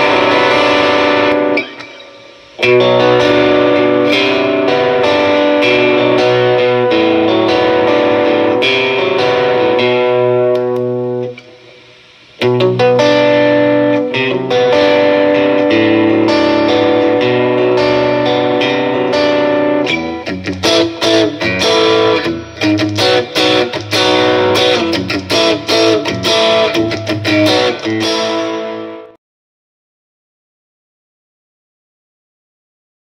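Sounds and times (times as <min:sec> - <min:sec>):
electric guitar chords: 0:00.0 - 0:29.2.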